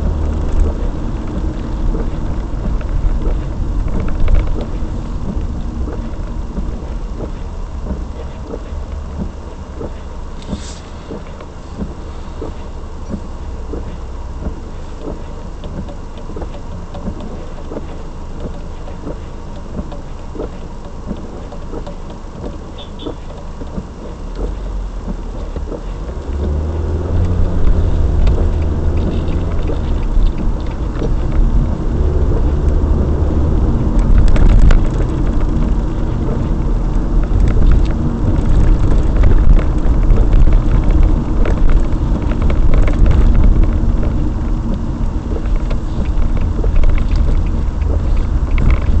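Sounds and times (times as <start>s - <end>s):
car engine and road rumble: 0.0s - 49.0s
crackling tyre noise: 0.0s - 49.0s.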